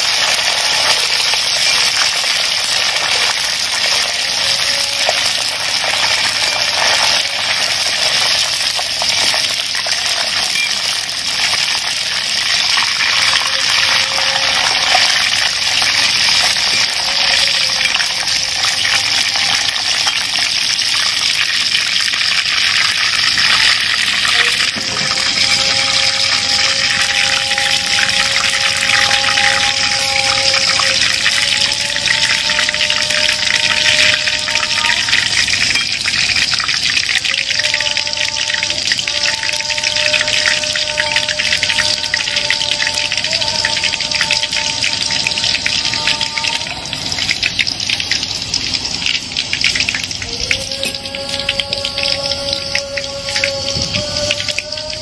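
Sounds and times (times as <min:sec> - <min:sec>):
leaves sizzling in hot oil: 0:00.0 - 0:55.0.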